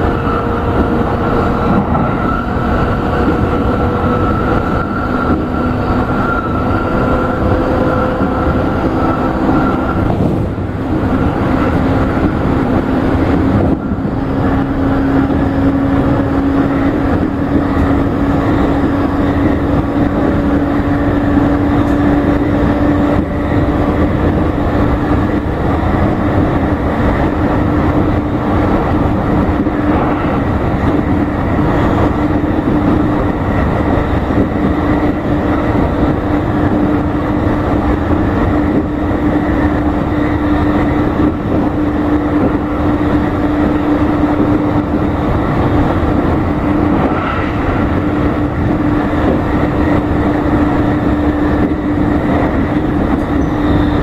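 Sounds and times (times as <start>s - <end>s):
constant low hum: 0.0s - 54.0s
train wheels rumbling on rail: 0.0s - 54.0s.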